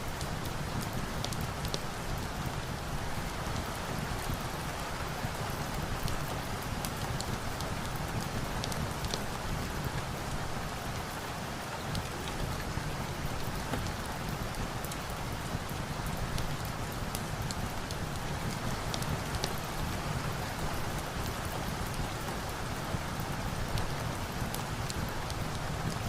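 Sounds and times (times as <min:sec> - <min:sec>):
steady rain: 0:00.0 - 0:26.0
wood fire crackling: 0:00.1 - 0:04.4, 0:05.2 - 0:10.5, 0:11.9 - 0:26.0.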